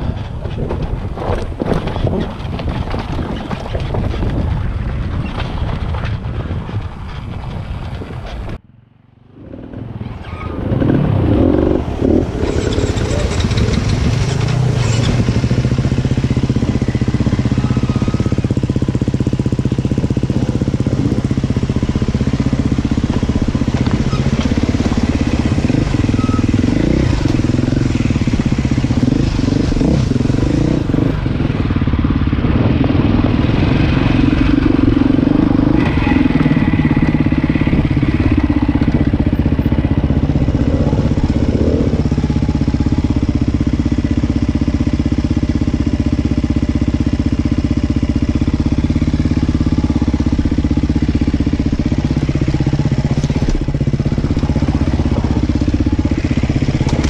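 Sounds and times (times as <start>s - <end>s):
rattling over rough ground: 0.0s - 8.6s, 9.2s - 57.0s
off-road vehicle engine: 0.0s - 57.0s.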